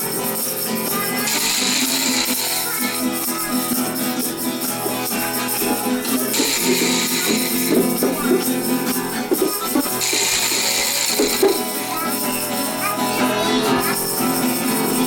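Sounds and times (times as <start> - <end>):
jingling hand percussion: 0.0 - 15.0
pitched instrument playing notes: 0.9 - 15.0.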